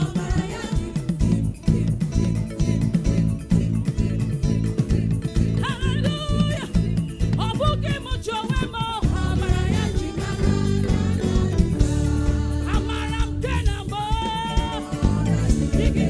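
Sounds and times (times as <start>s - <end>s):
choir singing praise song: 0.0s - 2.4s, 3.5s - 16.0s
live band playing: 0.0s - 16.0s.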